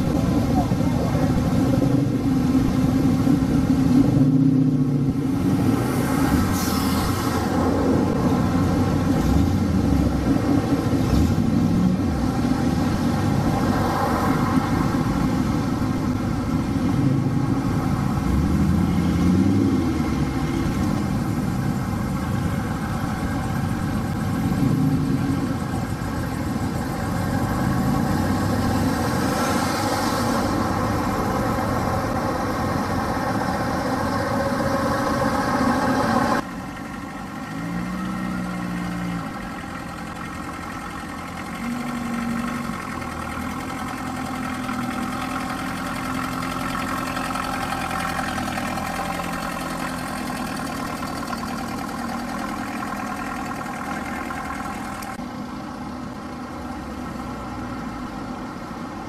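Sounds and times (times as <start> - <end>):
car engines running: 0.0 - 59.0.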